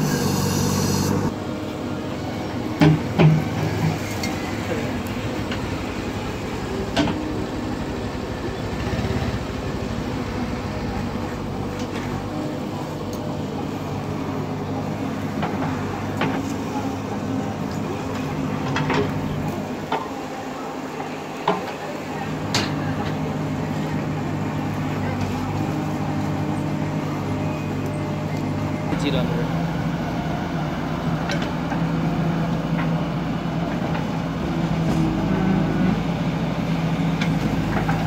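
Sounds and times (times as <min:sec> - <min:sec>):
diesel engine under hydraulic load: 0:00.0 - 0:38.0.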